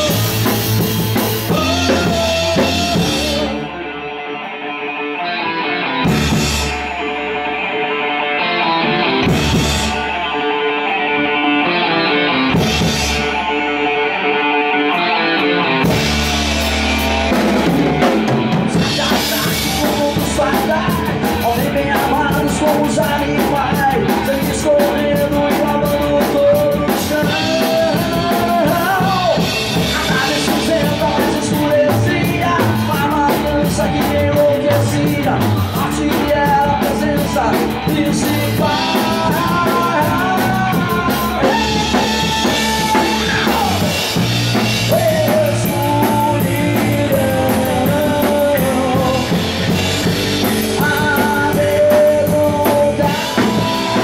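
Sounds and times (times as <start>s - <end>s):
drum kit playing: 0.0s - 3.9s, 5.9s - 7.8s, 8.4s - 54.0s
distorted electric guitars and bass: 0.0s - 54.0s
person singing: 0.0s - 54.0s.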